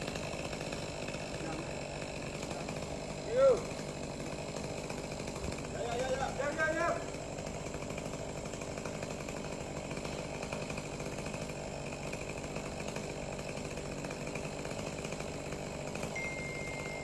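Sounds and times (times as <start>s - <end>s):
chainsaw engine running: 0.0s - 17.0s.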